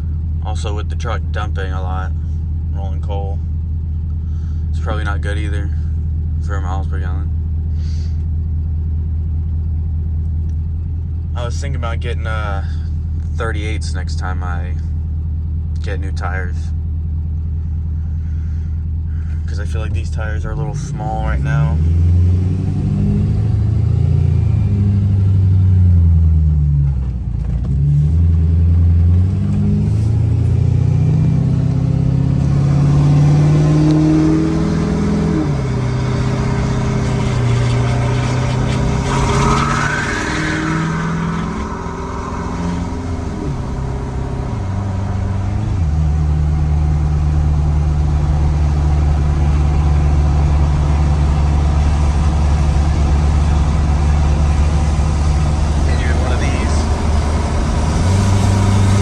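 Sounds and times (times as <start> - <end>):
pickup engine pulling through gears: 0.0 - 59.0.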